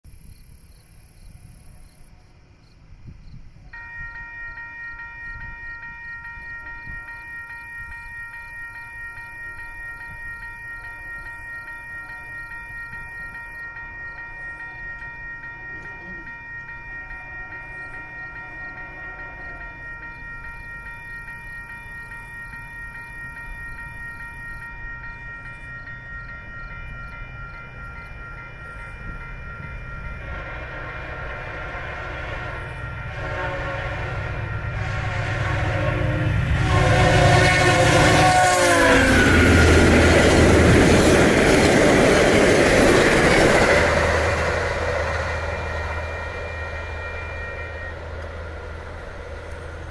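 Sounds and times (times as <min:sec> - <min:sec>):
level crossing warning bell: 0:03.7 - 0:49.9.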